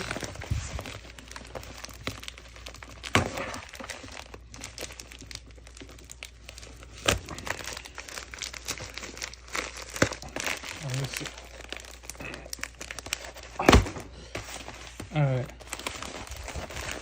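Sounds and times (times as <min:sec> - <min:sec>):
packaging scraping and tearing: 0:00.0 - 0:17.0.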